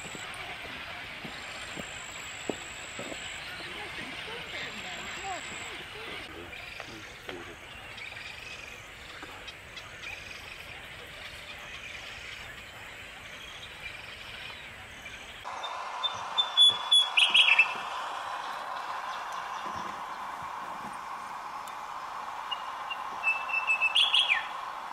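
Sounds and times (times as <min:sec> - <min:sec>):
birds chirping faintly: 0:00.0 - 0:24.9
outdoor hiss: 0:00.0 - 0:24.9.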